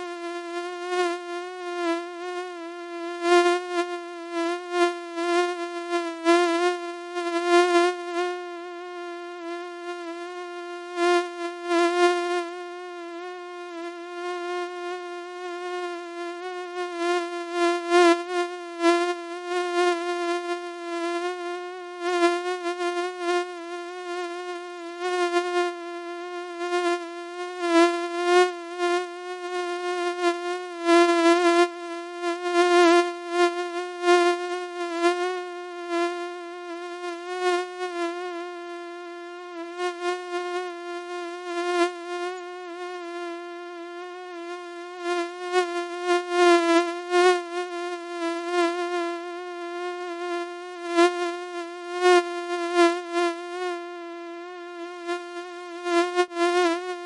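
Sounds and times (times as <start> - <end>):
mosquito whine: 0.0 - 57.0.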